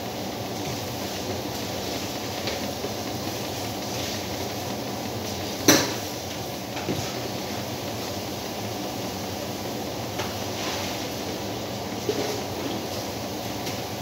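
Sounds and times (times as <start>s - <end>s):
kitchen hum and hiss: 0.0s - 14.0s.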